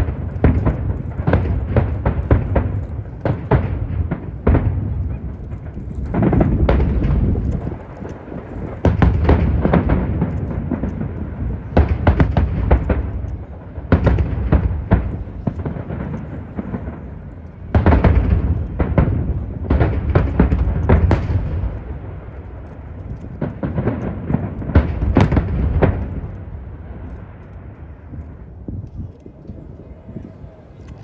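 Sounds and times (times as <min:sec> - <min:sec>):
fireworks bangs: 0:00.0 - 0:29.1.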